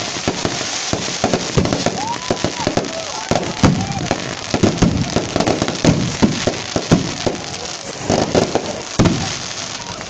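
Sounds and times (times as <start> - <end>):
bonfire crackling: 0.0 - 10.0
fire rushing noise: 0.0 - 10.0.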